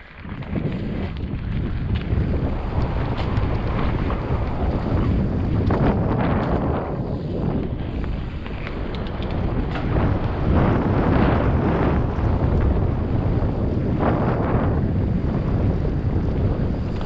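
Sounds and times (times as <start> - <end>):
bike tyre rumble: 0.0 - 17.0
wind buffeting microphone: 0.0 - 17.0.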